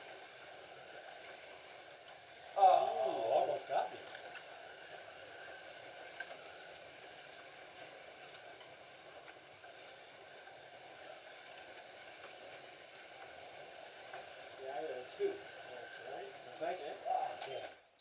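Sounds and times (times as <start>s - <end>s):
slot cars whirring: 0.0s - 17.7s.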